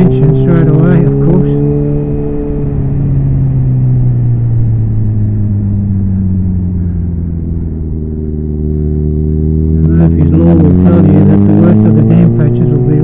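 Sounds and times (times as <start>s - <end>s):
motorcycle engine revs falling: 0.0s - 13.0s
wind and road noise: 0.0s - 13.0s.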